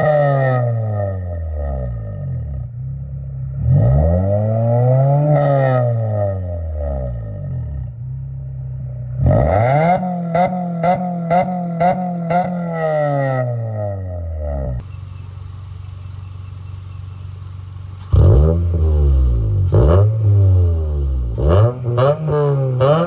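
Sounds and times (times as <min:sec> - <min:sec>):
car engine exhaust revving: 0:00.0 - 0:23.0.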